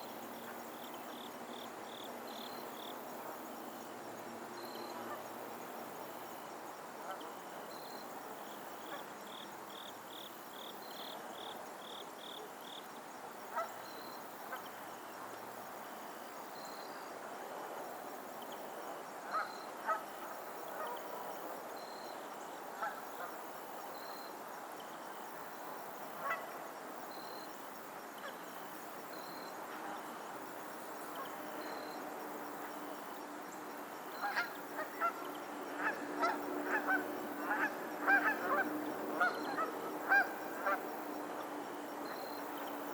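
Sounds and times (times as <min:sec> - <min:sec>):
steady background hiss: 0:00.0 - 0:42.9.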